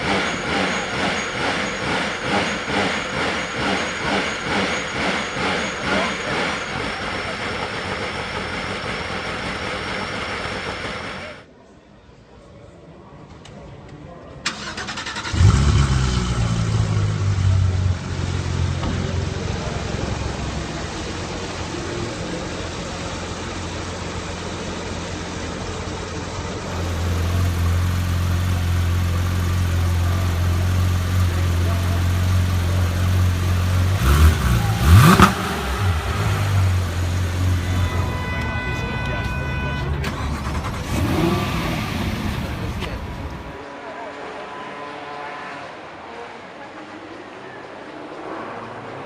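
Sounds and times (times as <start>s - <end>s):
engine rev: 0.0s - 11.4s, 14.5s - 43.7s
car engine starting and idling: 0.0s - 11.5s, 14.4s - 43.7s.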